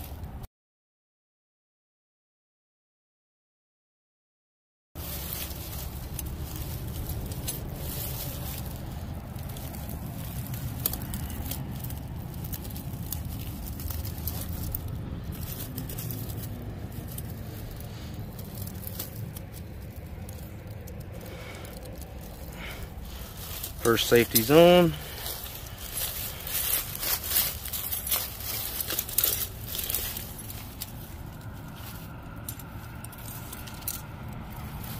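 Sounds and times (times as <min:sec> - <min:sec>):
low rumble: 0:05.0 - 0:34.9
rustling and crackling brush: 0:05.0 - 0:34.9.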